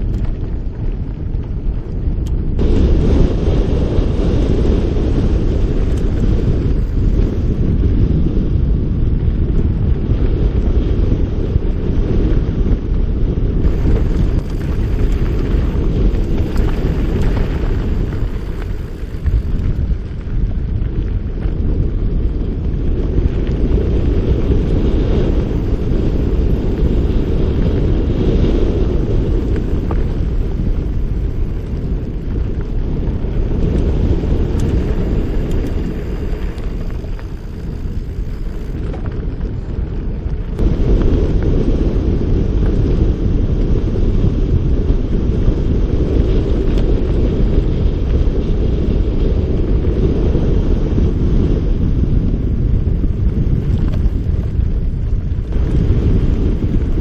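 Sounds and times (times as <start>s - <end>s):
bike tyres rolling on dirt: 0.0s - 57.0s
wind buffeting microphone: 0.0s - 57.0s.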